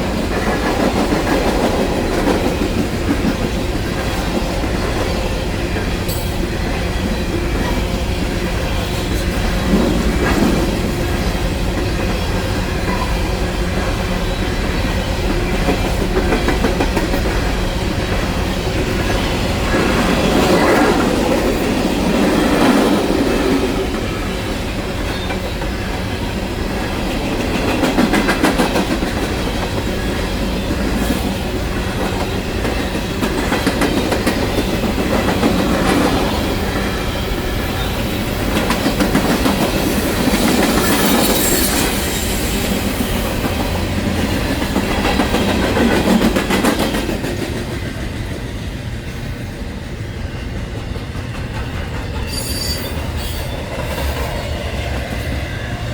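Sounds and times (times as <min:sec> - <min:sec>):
freight train wheels clacking: 0:00.0 - 0:55.9.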